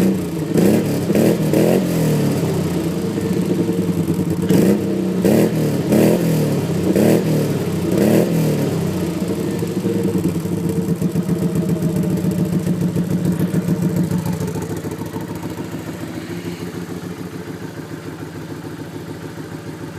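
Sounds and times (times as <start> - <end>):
atv engine revving and idling: 0.0 - 19.9.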